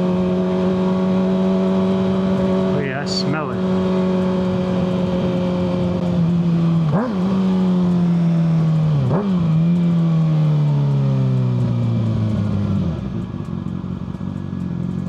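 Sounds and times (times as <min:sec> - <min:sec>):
engine revving on downshifts: 0:00.0 - 0:13.3
motorcycle engine slowing: 0:00.0 - 0:15.0.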